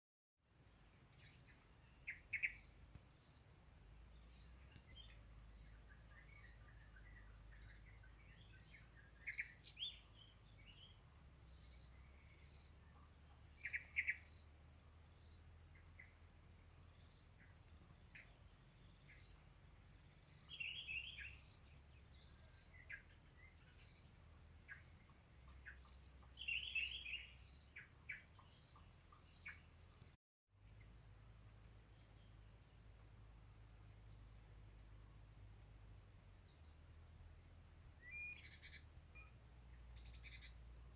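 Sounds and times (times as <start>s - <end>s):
songbirds calling: 0.9s - 40.9s.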